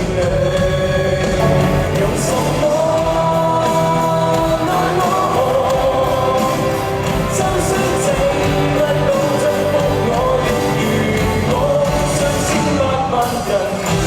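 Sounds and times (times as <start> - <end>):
band playing: 0.0 - 14.0
person singing: 0.0 - 14.0.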